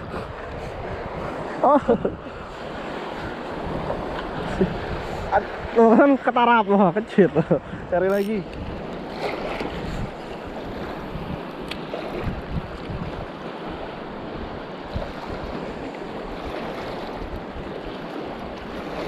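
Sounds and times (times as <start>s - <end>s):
shallow water washing: 0.0s - 19.0s
wind buffeting microphone: 0.0s - 19.0s.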